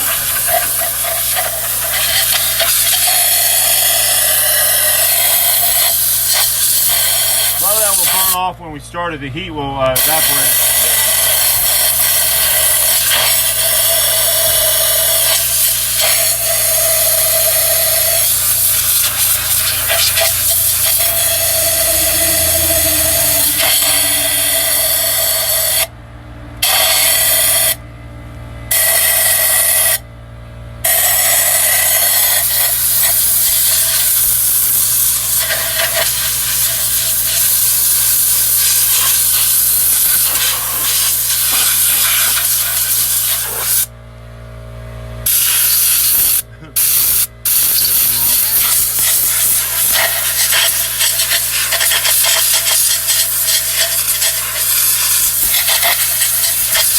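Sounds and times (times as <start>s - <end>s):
compressed air hissing: 0.0s - 8.4s, 10.0s - 25.9s, 26.6s - 27.8s, 28.7s - 30.0s, 30.8s - 43.9s, 45.2s - 56.9s.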